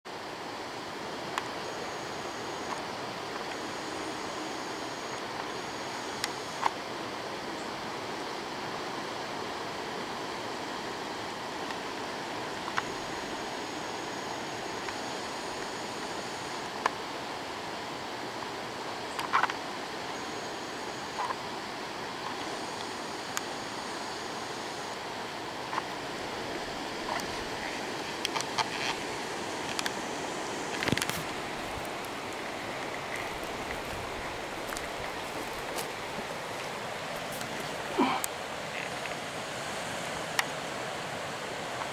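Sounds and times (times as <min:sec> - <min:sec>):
floodwater rushing: 0:00.5 - 0:41.9.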